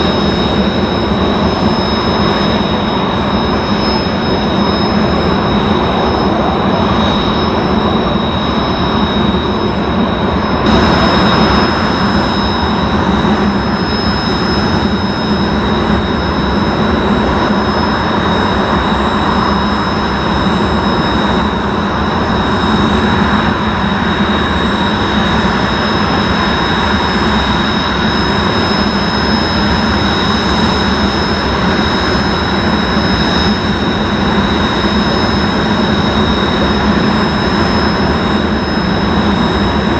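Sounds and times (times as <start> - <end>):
high-pitched jet whine: 0.0 - 39.9
jet engine roar: 0.0 - 39.9.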